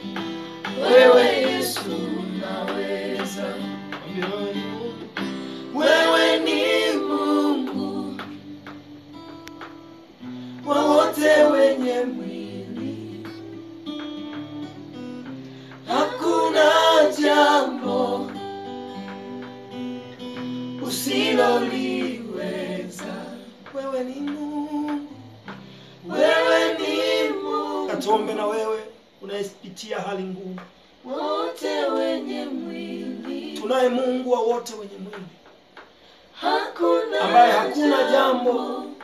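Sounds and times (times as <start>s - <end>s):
group singing gospel song: 0.0s - 9.3s, 10.2s - 14.7s, 15.6s - 28.9s, 31.0s - 39.0s
acoustic guitar: 0.0s - 39.0s.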